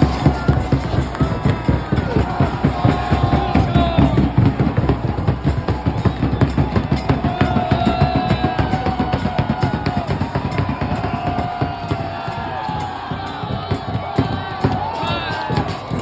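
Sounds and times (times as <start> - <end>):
crowd chanting: 0.0 - 16.0
drums beating fast rhythm: 0.0 - 16.0.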